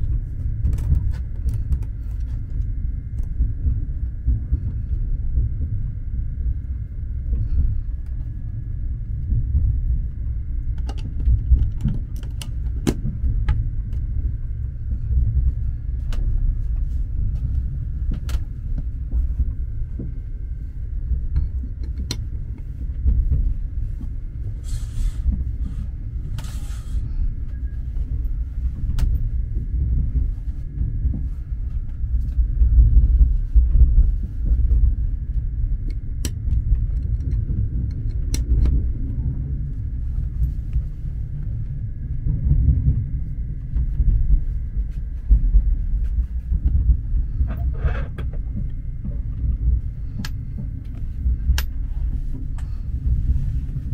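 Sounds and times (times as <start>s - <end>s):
train carriage rumbling on rails: 0.0s - 53.9s.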